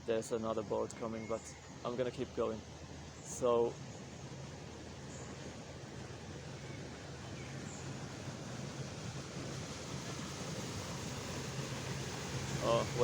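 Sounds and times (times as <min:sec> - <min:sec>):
motorboat engine hum: 0:00.0 - 0:13.0
water noise: 0:00.0 - 0:13.0.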